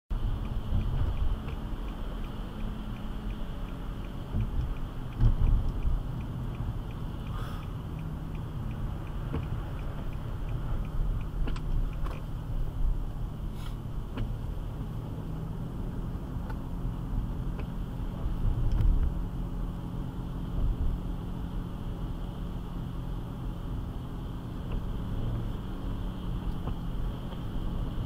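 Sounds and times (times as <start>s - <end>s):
car road and engine rumble: 0.1s - 28.0s
faint steady ticking: 0.1s - 28.0s.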